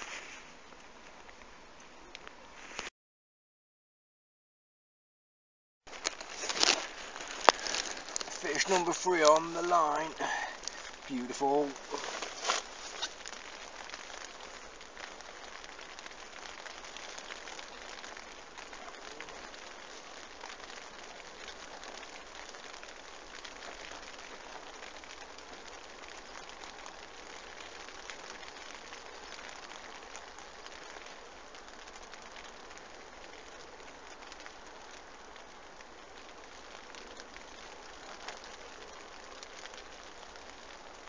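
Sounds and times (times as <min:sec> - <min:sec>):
rain pattering on fabric: 0:00.0 - 0:02.9, 0:05.9 - 0:41.0.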